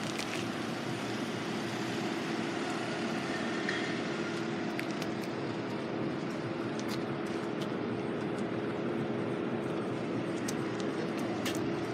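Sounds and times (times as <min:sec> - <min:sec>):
constant drone: 0:00.0 - 0:11.9.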